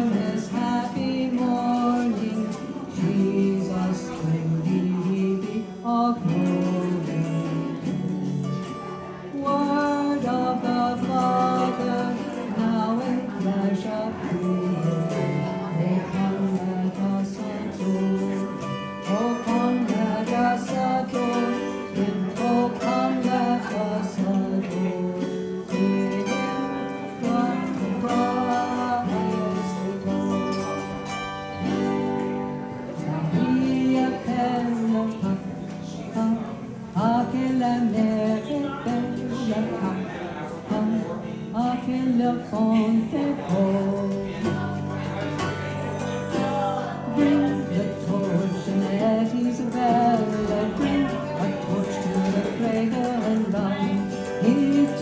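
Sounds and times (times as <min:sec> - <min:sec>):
plucked acoustic guitar music: 0:00.0 - 0:55.0.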